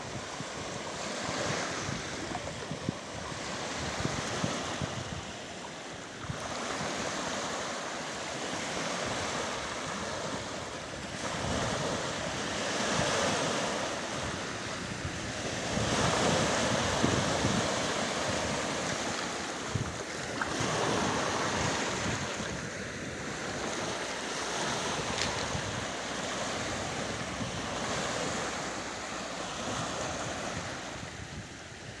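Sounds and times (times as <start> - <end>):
wind buffeting microphone: 0.0 - 7.7, 8.4 - 32.0
water washing on shore: 0.1 - 32.0.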